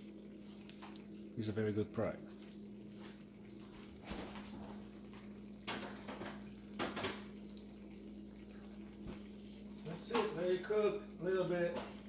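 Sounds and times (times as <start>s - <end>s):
bubbles popping: 0.0s - 1.4s, 2.0s - 11.2s
sauce simmering in pan: 0.0s - 12.0s
steady low hum: 0.0s - 12.0s.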